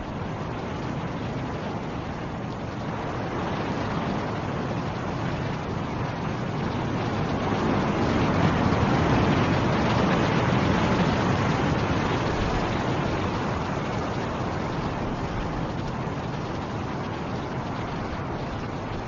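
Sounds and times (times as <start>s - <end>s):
snowstorm wind rushing: 0.0s - 19.0s.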